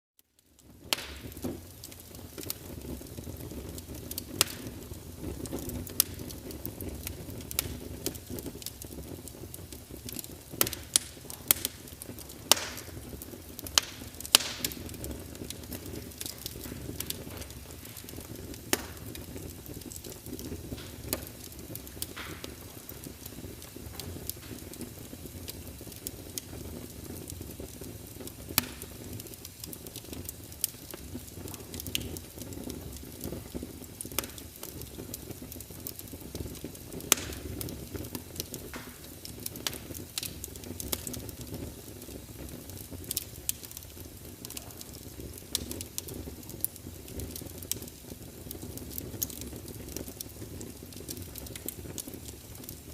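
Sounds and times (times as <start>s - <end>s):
burning logs crackling and popping: 0.2s - 52.9s
fire flames rumbling: 0.3s - 52.9s.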